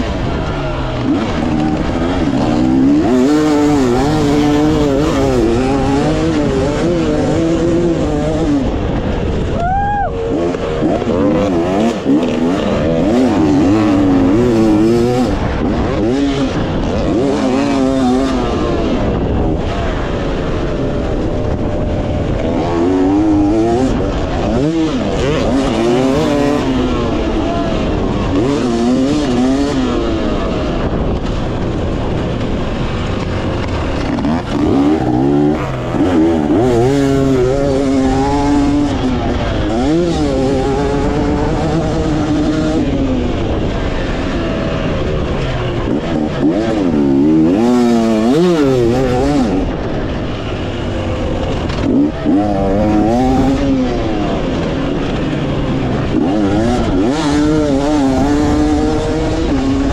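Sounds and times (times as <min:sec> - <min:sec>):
two-stroke dirt bike engine revving: 0:00.0 - 0:59.9
wind and track noise: 0:00.0 - 0:59.9.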